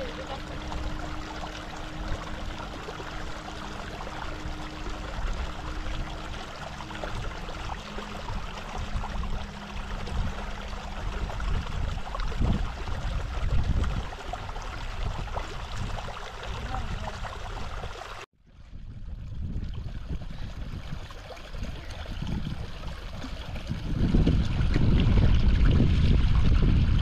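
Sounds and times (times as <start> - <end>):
low rumbles: 0.0 - 17.8, 18.6 - 27.0
stream trickling over stones: 0.0 - 27.0.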